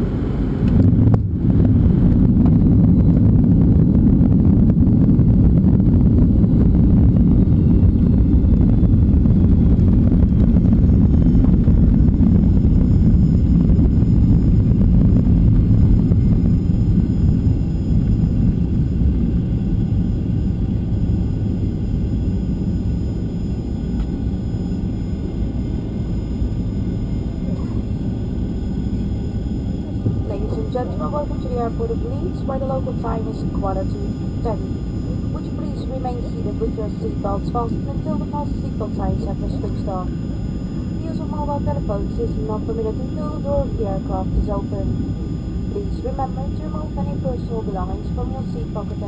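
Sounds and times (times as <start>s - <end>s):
jet engines and wheels rumbling: 0.0s - 49.0s.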